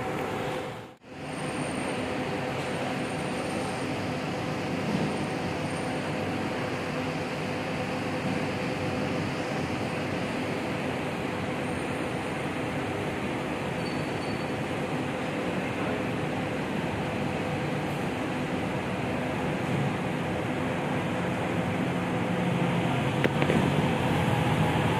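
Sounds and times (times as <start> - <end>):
bus diesel engine running: 0.0 - 24.9.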